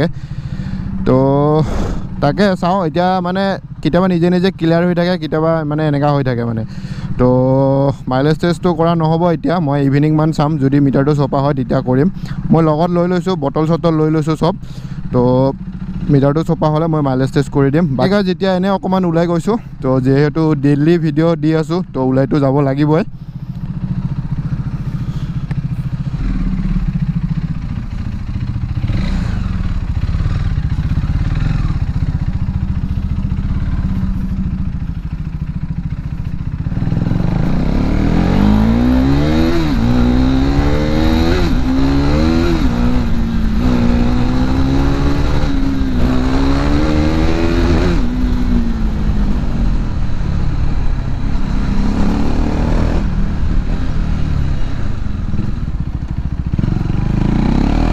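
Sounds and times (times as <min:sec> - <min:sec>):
motorcycle engine accelerating: 0:00.0 - 0:20.7, 0:23.1 - 0:57.9.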